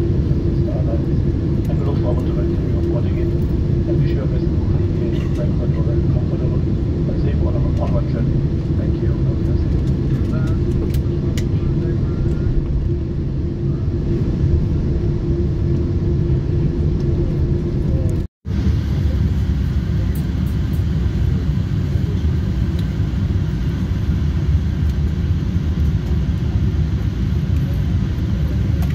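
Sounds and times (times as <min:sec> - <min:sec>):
aircraft cabin rumble: 0:00.0 - 0:28.9.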